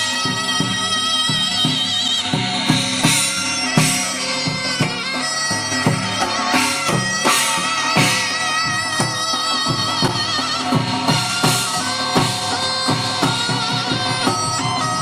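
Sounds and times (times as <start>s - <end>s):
drum strikes: 0.0s - 15.0s
reed wind instrument melody: 0.0s - 15.0s.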